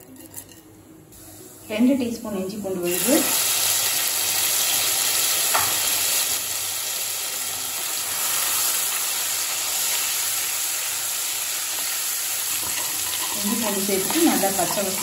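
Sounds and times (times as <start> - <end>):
spices sizzling in hot oil: 1.6 - 15.0.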